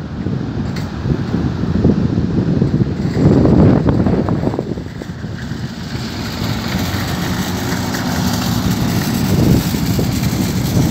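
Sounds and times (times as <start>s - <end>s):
jet engines low rumble: 0.0s - 10.9s.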